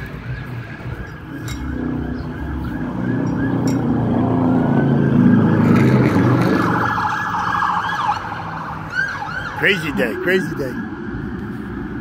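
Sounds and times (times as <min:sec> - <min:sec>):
siren wailing: 0:00.2 - 0:12.0.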